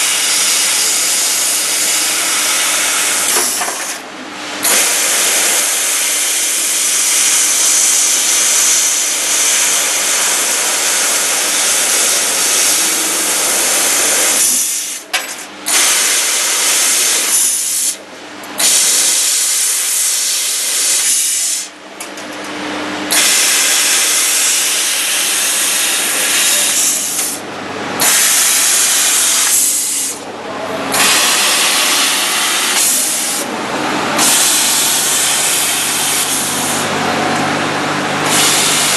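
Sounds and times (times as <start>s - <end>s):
laser cutter gas jet hissing: 0.0s - 4.0s, 4.6s - 15.1s, 15.7s - 18.0s, 18.6s - 21.7s, 23.1s - 27.4s, 28.0s - 30.2s, 30.9s - 33.5s, 34.2s - 36.9s, 38.2s - 38.9s.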